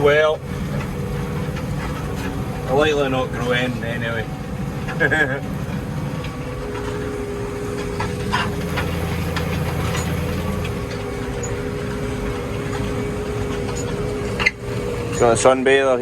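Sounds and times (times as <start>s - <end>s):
steady whine: 0.0s - 16.0s
tractor diesel engine drone: 0.0s - 16.0s.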